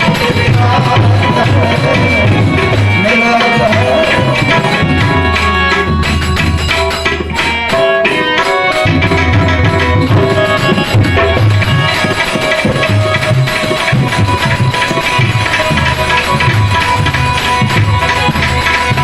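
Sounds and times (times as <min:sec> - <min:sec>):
hand drum beat: 0:00.0 - 0:19.0
held melody notes: 0:00.0 - 0:19.0.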